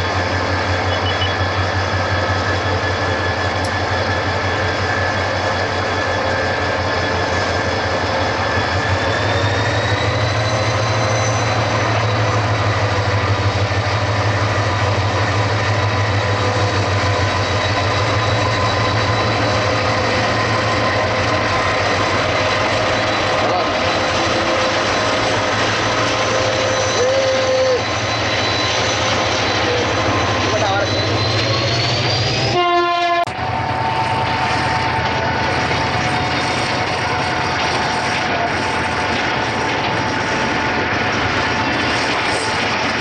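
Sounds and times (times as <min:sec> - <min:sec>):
diesel locomotive engine: 0:00.0 - 0:43.0.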